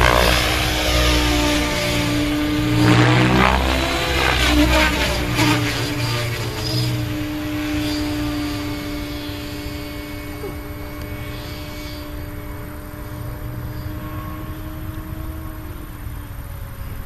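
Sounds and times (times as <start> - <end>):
model helicopter drone: 0.0 - 17.0.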